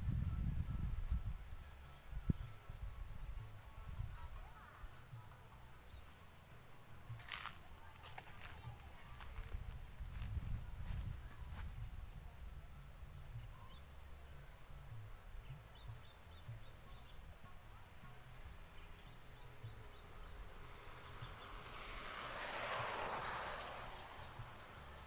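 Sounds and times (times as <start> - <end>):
low rumble on microphone: 0.0 - 4.4, 7.0 - 25.0.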